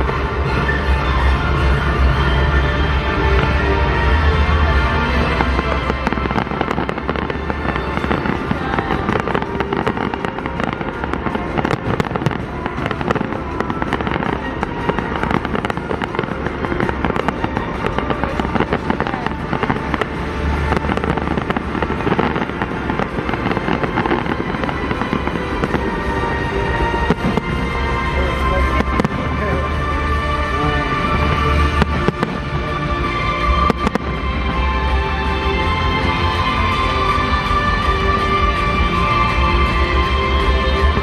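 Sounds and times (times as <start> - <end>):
fireworks popping and crackling: 0.0 - 41.0
music: 0.0 - 41.0.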